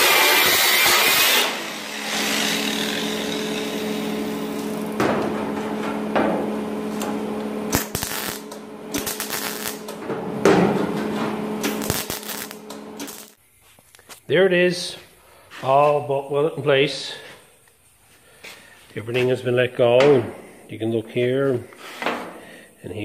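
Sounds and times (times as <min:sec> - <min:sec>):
steady mechanical hum: 0:01.2 - 0:23.0.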